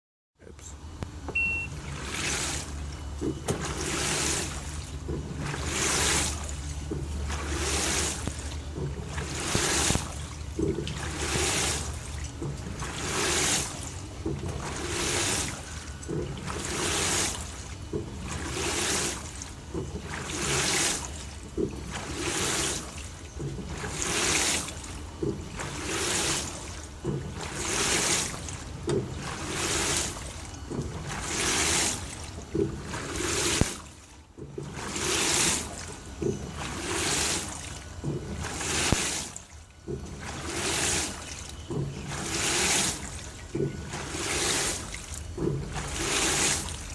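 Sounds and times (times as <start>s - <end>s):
low motor hum: 0.4s - 46.9s
washing machine water swishing: 0.8s - 46.9s.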